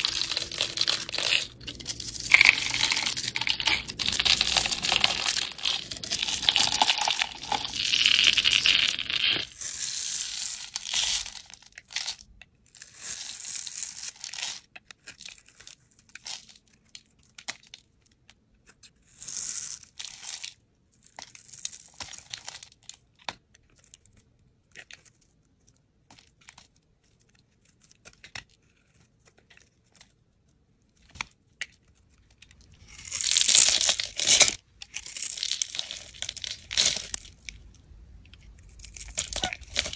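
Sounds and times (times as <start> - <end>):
blade scraping and crunching soap: 0.0 - 39.9.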